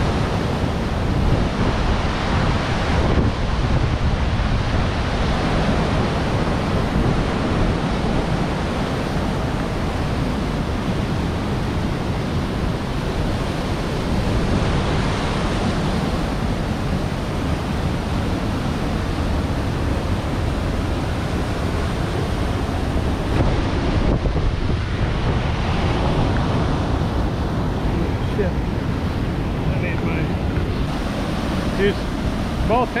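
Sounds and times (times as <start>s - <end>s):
stream rushing: 0.0s - 33.0s
wind buffeting microphone: 0.0s - 33.0s.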